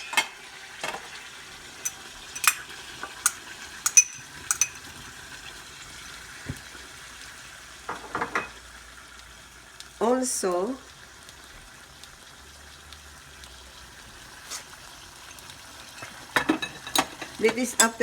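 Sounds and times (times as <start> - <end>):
stew sizzling in a pan: 0.0 - 18.0.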